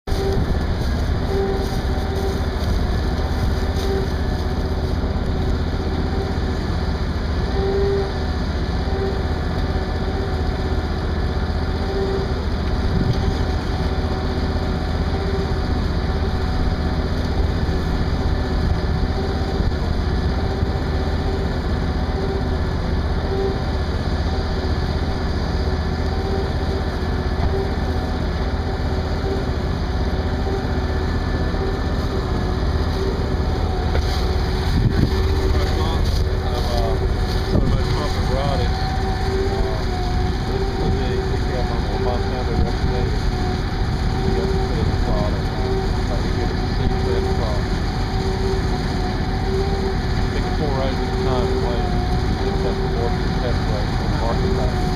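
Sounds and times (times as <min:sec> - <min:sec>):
combine harvester droning: 0:00.0 - 0:54.9.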